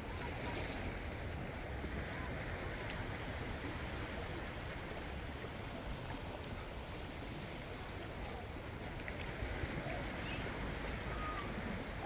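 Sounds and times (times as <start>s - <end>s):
waves lapping against rocks: 0.0s - 12.0s.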